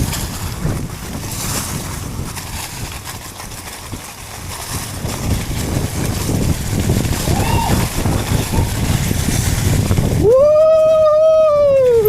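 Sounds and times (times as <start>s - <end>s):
bike knocks and rattles: 0.0s - 12.0s
wind buffeting microphone: 0.0s - 12.0s.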